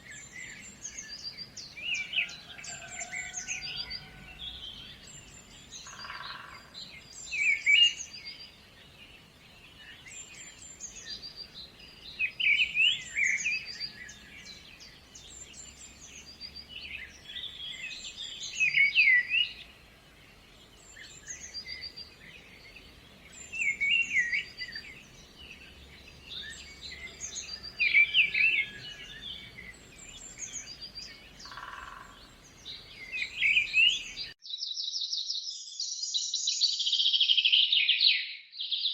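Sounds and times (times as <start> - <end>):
bursts of chirping birdsong: 0.0 - 34.8.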